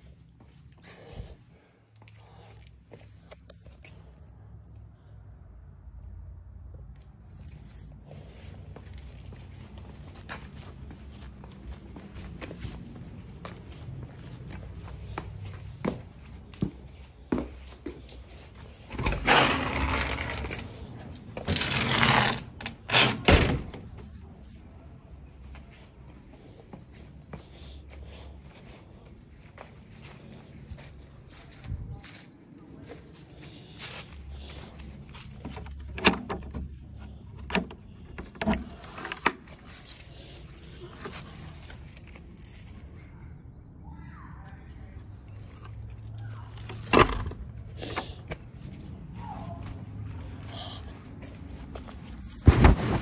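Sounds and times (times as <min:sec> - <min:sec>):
rustling and scraping: 0:07.0 - 0:24.6, 0:25.6 - 0:43.1, 0:45.3 - 0:53.0.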